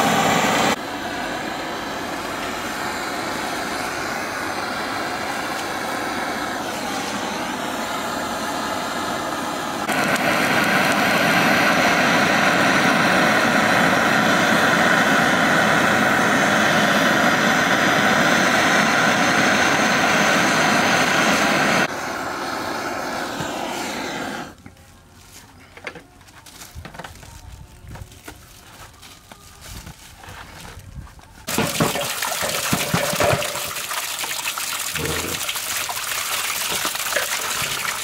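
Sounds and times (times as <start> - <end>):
butane torch flame hissing: 0.0 - 24.6, 31.5 - 38.0.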